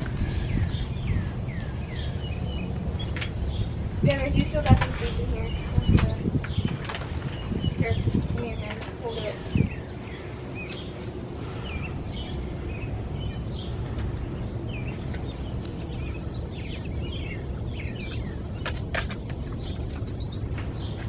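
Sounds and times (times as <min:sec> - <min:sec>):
birds chirping and twittering: 0:00.0 - 0:21.0
low background rumble: 0:00.0 - 0:21.0.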